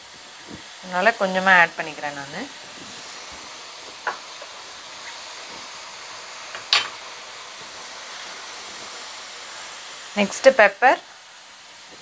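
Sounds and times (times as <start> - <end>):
meat and onions sizzling in a pan: 0.0 - 12.0.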